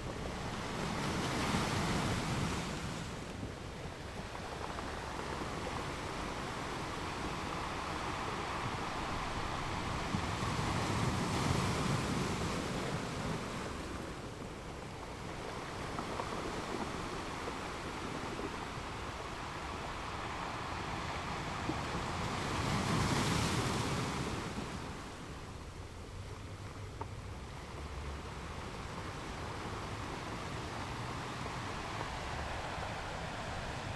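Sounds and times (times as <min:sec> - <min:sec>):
sea waves breaking on beach: 0:00.0 - 0:25.9, 0:27.9 - 0:33.9.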